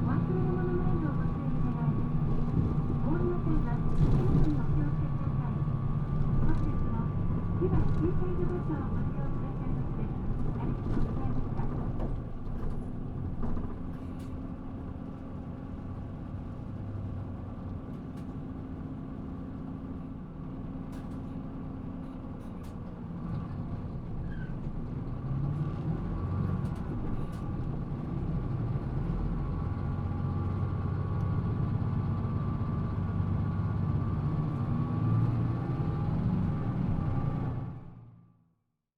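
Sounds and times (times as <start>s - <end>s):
bus diesel engine droning: 0.0s - 38.2s.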